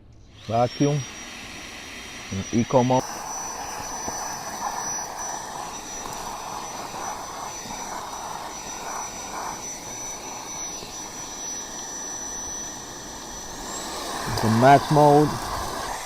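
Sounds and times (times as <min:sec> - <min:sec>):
handheld vacuum cleaner whine: 0:00.3 - 0:16.0.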